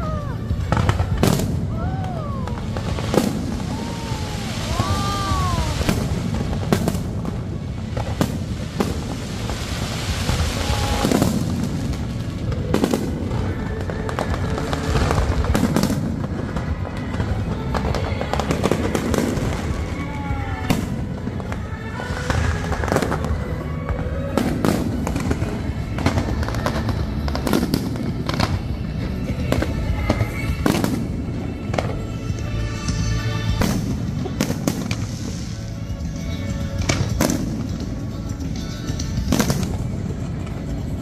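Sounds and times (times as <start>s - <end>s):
continuous low rumble: 0.0s - 41.0s
firework bangs and crackles: 0.0s - 41.0s.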